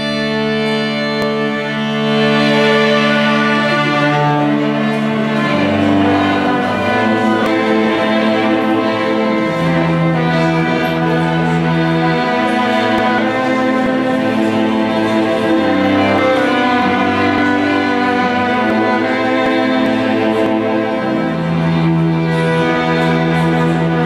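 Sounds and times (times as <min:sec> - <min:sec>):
string ensemble bowed chords: 0:00.0 - 0:24.0.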